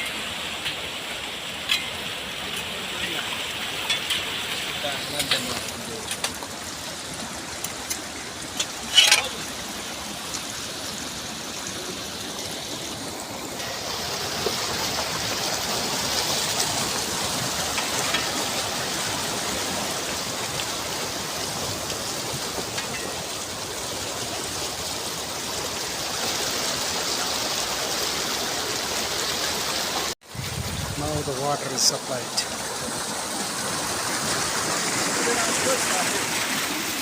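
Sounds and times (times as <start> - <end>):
water flowing along a channel: 0.0 - 37.0.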